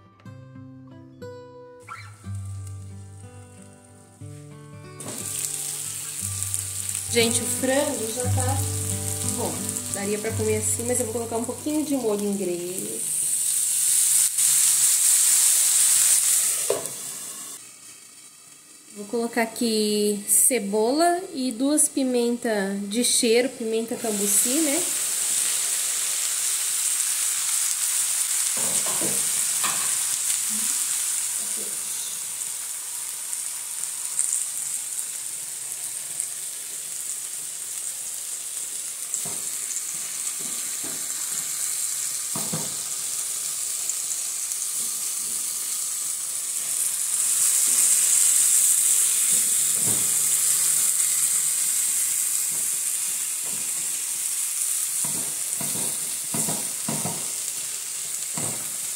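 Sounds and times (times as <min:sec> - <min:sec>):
chicken sizzling in frying pan: 0:01.9 - 0:04.1, 0:05.0 - 0:20.4, 0:22.9 - 0:58.9.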